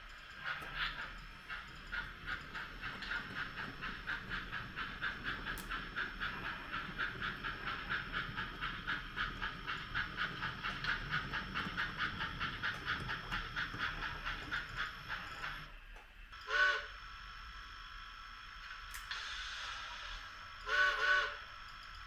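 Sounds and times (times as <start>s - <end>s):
model steam locomotive chuffing: 0.0s - 22.0s.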